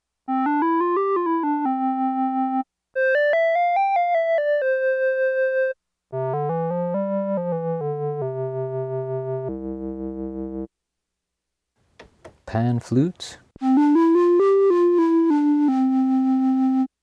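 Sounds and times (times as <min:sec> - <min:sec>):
synth clarinet melody: 0:00.3 - 0:10.7, 0:13.6 - 0:17.0.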